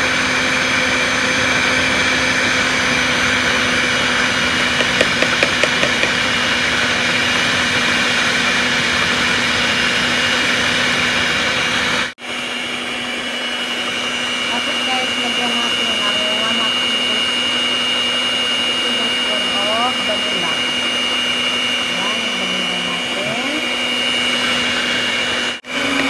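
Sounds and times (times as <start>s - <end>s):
stand mixer running: 0.0s - 26.0s.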